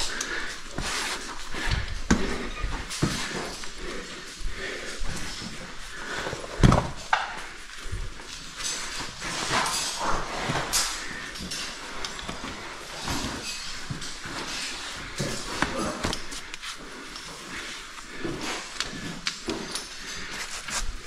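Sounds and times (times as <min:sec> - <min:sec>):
gloved hands rustling on rope: 0:00.0 - 0:21.0.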